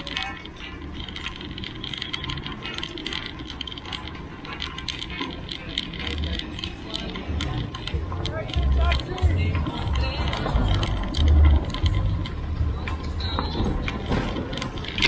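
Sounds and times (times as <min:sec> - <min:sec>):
bicycle rattling on rough street: 0:00.0 - 0:15.0.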